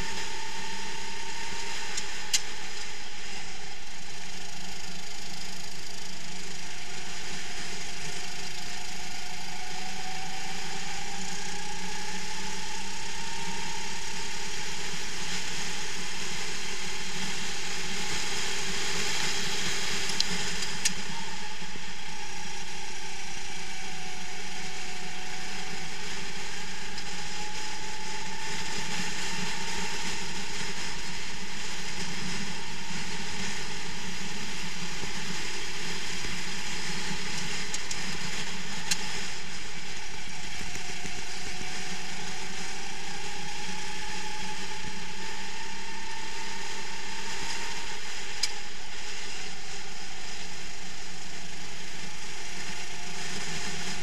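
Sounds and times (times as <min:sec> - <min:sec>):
kart engine running: 0:00.0 - 0:54.0
steady rushing noise: 0:00.0 - 0:54.0.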